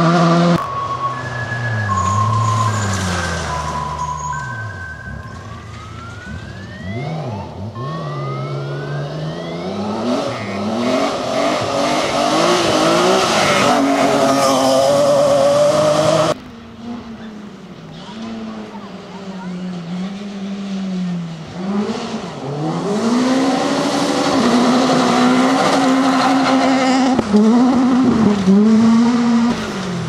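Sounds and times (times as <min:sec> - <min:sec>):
distant rally car engine: 0:00.0 - 0:30.0
rally car engine at full throttle: 0:00.0 - 0:30.0.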